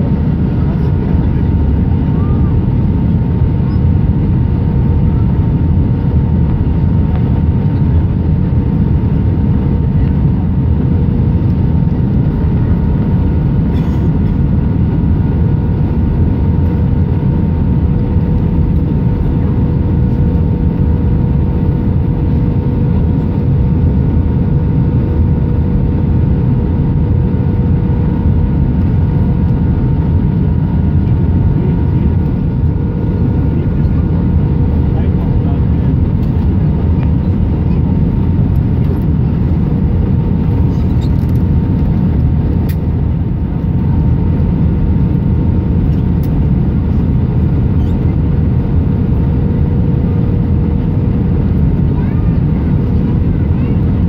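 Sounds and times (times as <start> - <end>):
aircraft cabin engine rumble: 0.0 - 54.0
constant cabin hum: 0.0 - 54.0.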